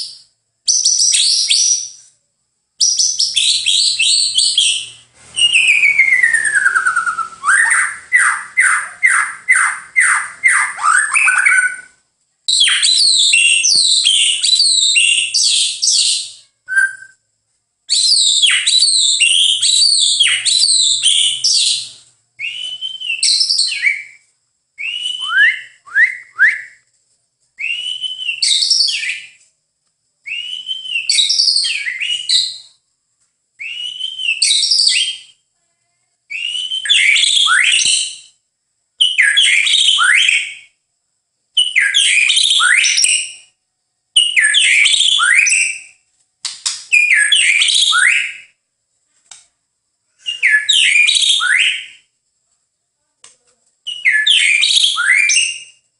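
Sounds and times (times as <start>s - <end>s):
bird singing whistled phrases: 0.0s - 2.1s, 2.8s - 17.3s, 17.9s - 26.9s, 27.6s - 29.4s, 30.2s - 32.8s, 33.6s - 35.5s, 36.3s - 38.4s, 39.0s - 40.8s, 41.6s - 43.6s, 44.2s - 46.0s, 46.9s - 48.6s, 50.2s - 52.1s, 53.9s - 55.8s.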